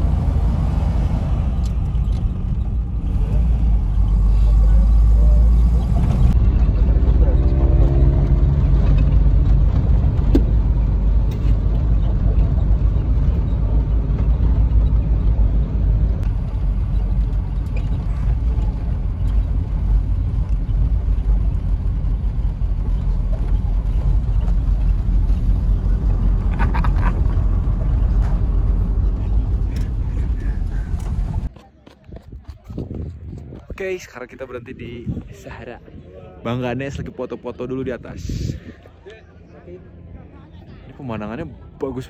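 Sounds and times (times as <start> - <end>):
car engine rumble: 0.0 - 37.0
road noise: 0.0 - 42.0.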